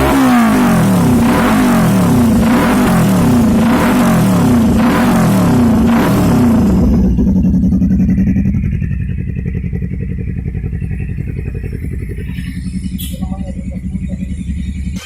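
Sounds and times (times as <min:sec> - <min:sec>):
motorcycle engine revving and idling: 0:00.0 - 0:15.0.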